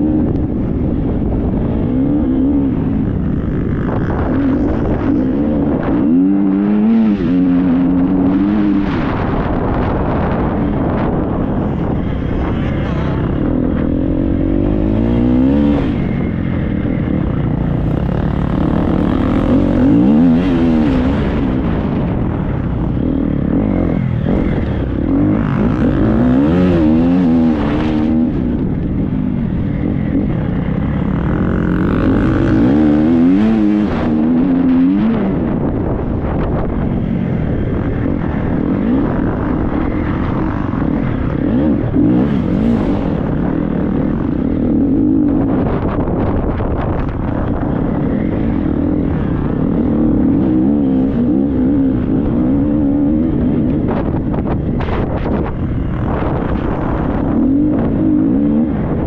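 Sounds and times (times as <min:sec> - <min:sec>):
motorcycle engine revving: 0:00.0 - 0:59.0
wind buffeting: 0:00.0 - 0:59.0.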